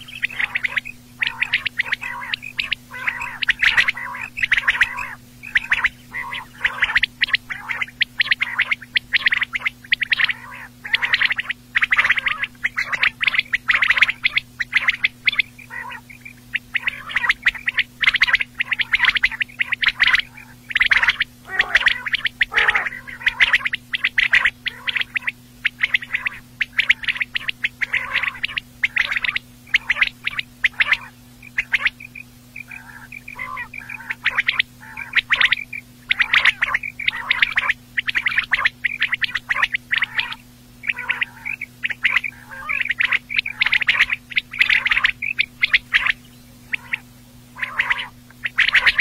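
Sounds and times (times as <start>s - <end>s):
faint steady hum: 0.0s - 49.0s
quail calling: 0.0s - 49.0s.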